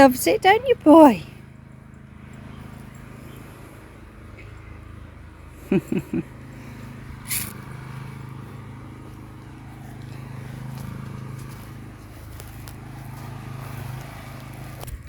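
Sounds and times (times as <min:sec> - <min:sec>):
small petrol engine running: 0:00.0 - 0:15.0.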